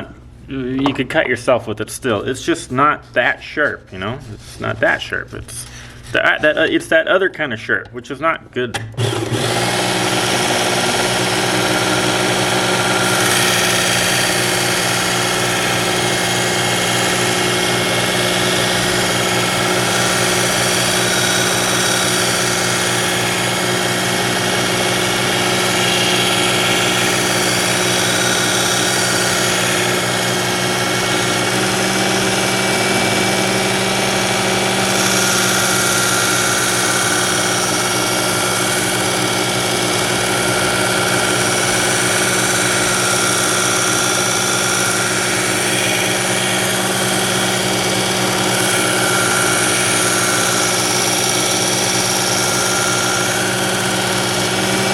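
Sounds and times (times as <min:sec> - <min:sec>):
belt sharpener motor hum: 0:09.0 - 0:54.9.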